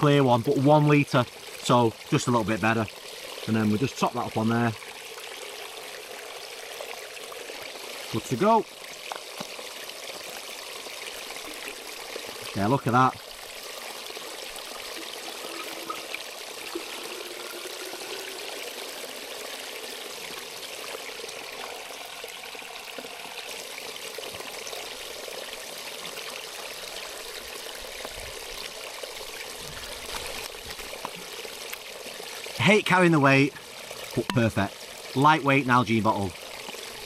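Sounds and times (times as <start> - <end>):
water trickling into plastic bottle: 0.0 - 37.0.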